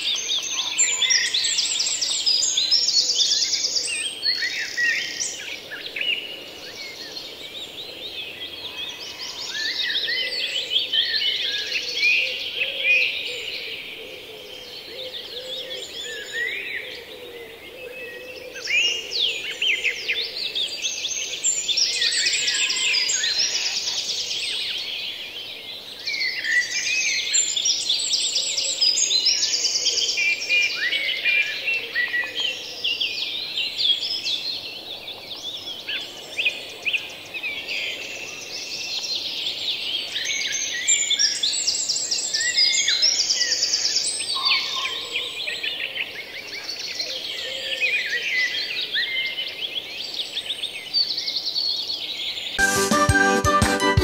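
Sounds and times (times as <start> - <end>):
songbirds chirping and trilling: 0.0 - 52.6.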